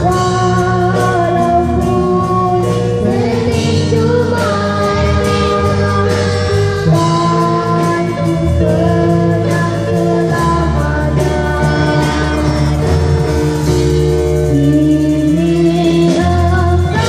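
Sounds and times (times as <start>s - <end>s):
boy singing into a microphone: 0.0s - 17.0s
live band music: 0.0s - 17.0s.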